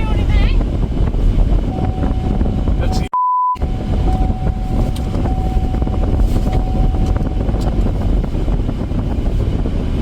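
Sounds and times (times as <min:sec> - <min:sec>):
tyre and wind rumble in car: 0:00.0 - 0:10.0.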